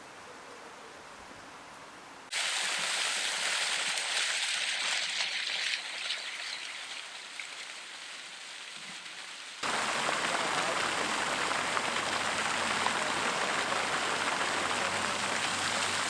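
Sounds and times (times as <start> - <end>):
faint hiss: 0.0 - 16.0
rushing water: 2.3 - 16.0.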